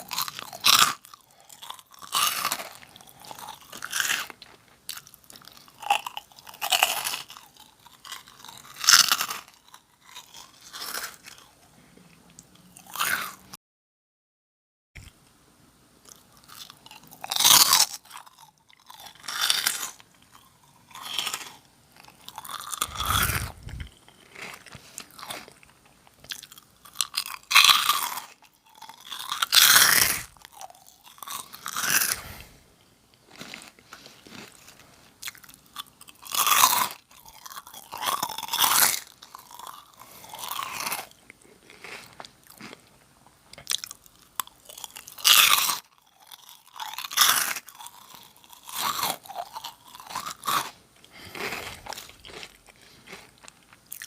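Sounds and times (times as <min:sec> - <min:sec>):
crunching and chewing snack: 0:00.0 - 0:13.6, 0:15.0 - 0:15.3, 0:16.0 - 0:54.0.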